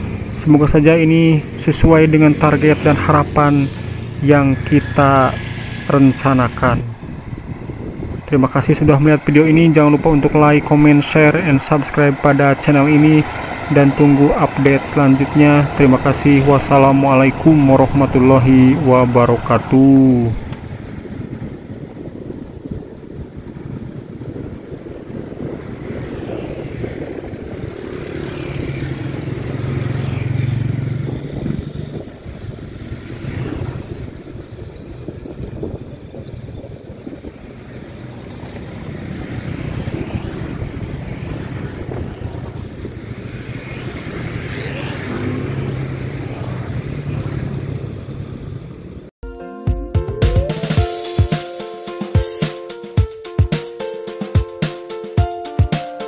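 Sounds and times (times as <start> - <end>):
passing motor traffic: 0.0 - 49.2, 50.4 - 56.0.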